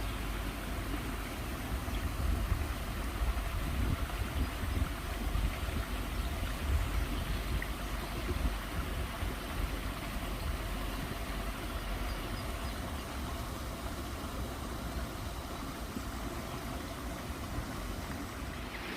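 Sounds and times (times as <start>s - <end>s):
running water: 0.0s - 18.9s.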